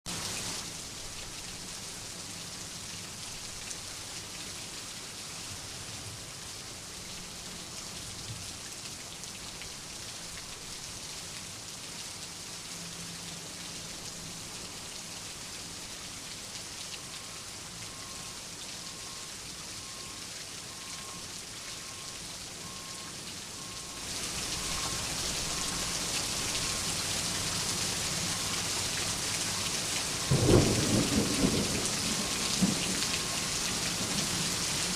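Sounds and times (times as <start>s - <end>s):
rain falling on a surface: 0.1s - 34.9s.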